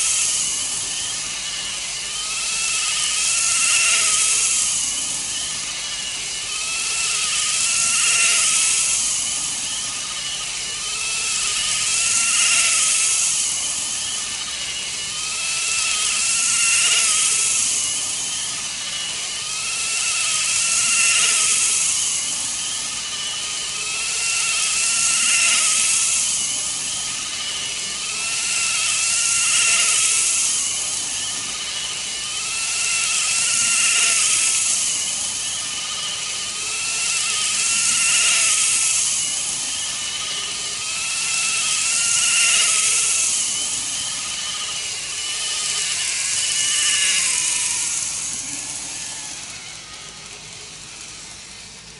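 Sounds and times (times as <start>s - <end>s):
model train motor whine: 0.0s - 51.9s.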